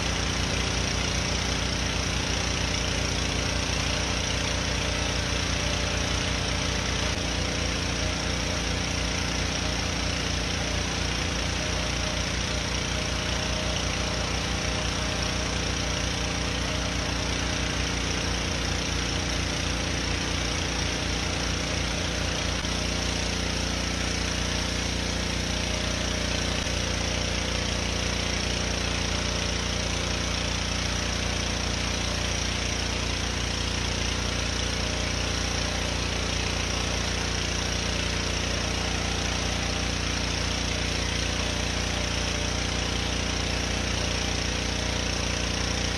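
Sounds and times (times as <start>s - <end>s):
pressure washer running: 0.0s - 45.9s.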